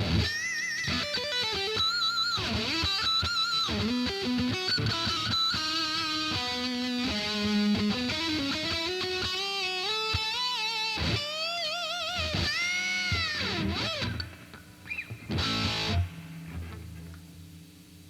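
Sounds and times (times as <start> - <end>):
electric guitar lead notes: 0.0 - 17.6
low steady amp hum: 0.0 - 18.0.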